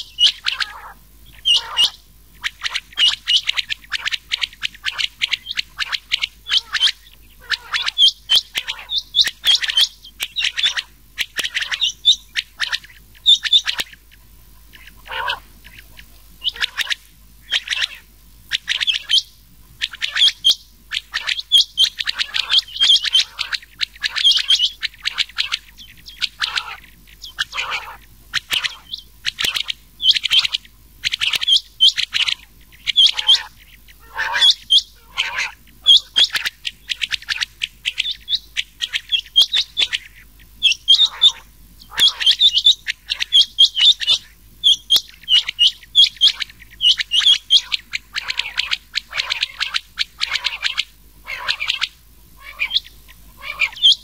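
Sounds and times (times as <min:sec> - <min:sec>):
quail chirping: 0:00.0 - 0:54.0.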